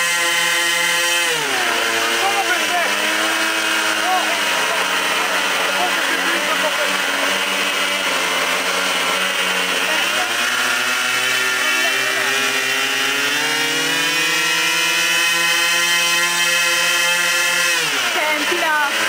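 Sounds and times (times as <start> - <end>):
model plane engines running: 0.0 - 19.0.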